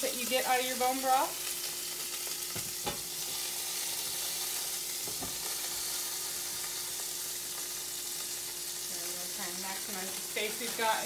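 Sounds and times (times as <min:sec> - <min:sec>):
bones sizzling in a pot: 0:00.0 - 0:11.0.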